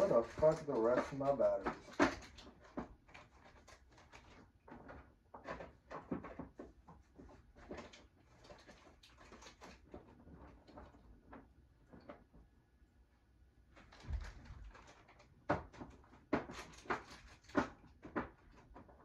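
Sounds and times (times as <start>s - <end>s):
clicks and rustles of handling: 0.0s - 12.6s, 13.6s - 19.0s.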